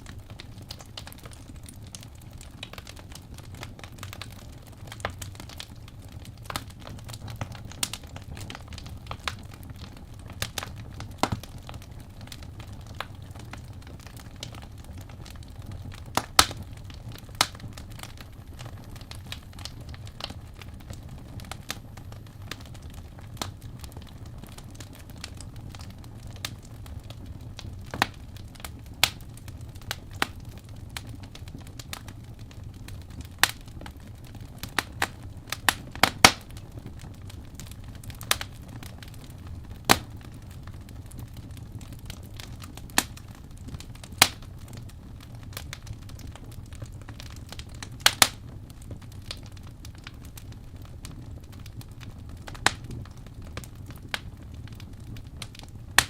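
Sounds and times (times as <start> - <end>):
low fire rumble: 0.0 - 56.0
wood fire crackling and popping: 0.0 - 56.0.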